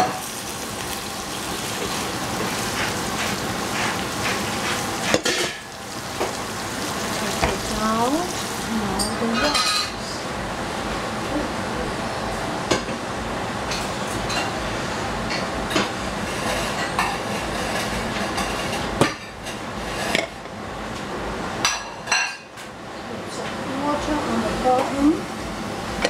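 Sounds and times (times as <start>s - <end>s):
stovetop hiss: 0.0s - 26.0s.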